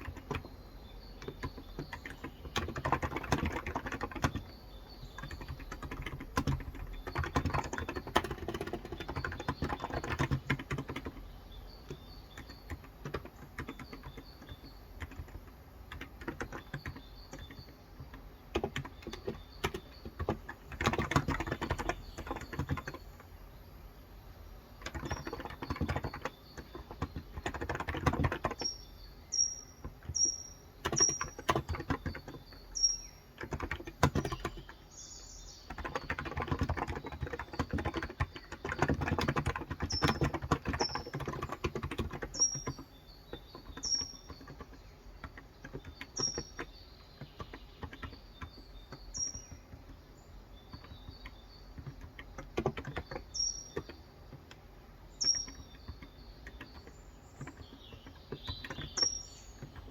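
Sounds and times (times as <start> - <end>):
keyboard typing: 0.0 - 23.4, 24.8 - 59.9
birds chirping: 0.0 - 59.9.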